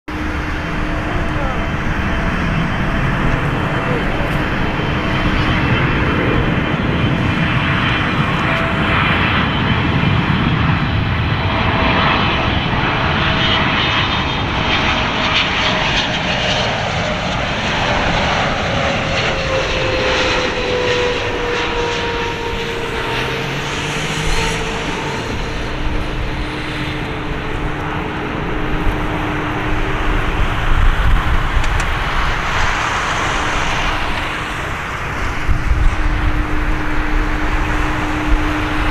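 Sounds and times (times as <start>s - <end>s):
jet engine roar: 0.0s - 38.9s
jet engine whine falling in pitch: 0.1s - 38.9s.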